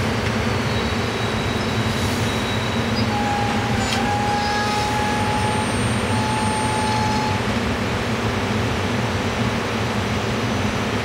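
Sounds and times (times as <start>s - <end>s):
train wheels rushing on track: 0.0s - 11.0s.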